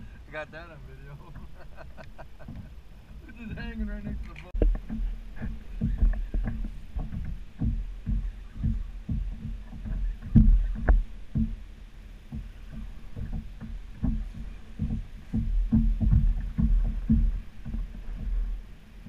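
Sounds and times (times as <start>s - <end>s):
steady low rumble: 0.0s - 19.0s
water slapping kayak hull: 0.0s - 19.0s.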